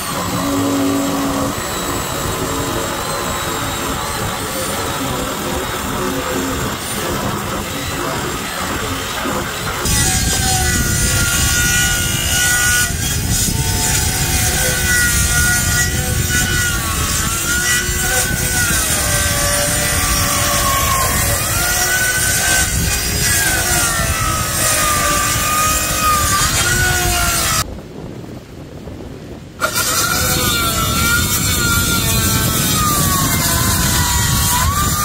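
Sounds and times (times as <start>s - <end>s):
reciprocating saw cutting wood: 0.0s - 27.7s, 29.6s - 35.0s.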